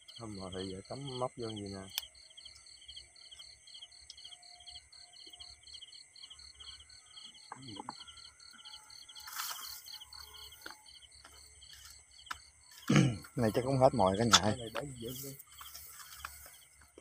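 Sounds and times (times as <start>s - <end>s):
cricket-like chirping: 0.0s - 17.0s
steady high insect buzz: 0.0s - 17.0s.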